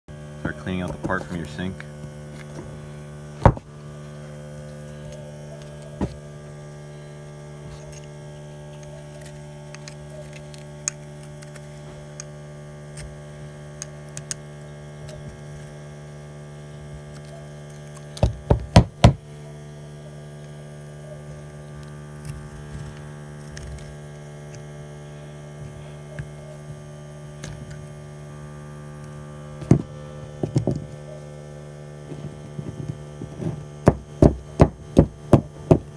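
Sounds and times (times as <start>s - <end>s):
electrical hum: 0.1s - 35.9s.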